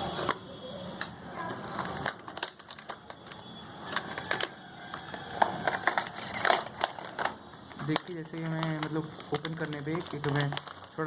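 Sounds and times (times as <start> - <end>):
box crinkling and clicking: 1.0 - 10.9
packaging being opened by hand: 1.0 - 11.0.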